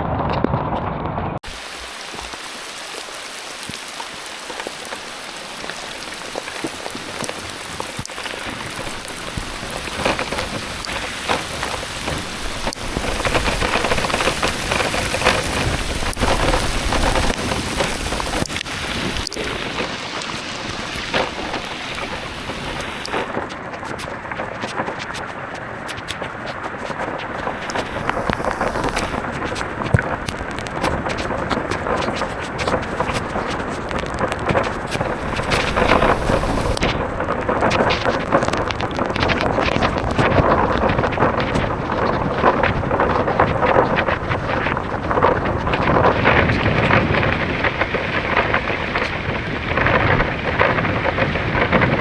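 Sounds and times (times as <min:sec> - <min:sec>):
heavy rain falling: 0:01.4 - 0:52.0.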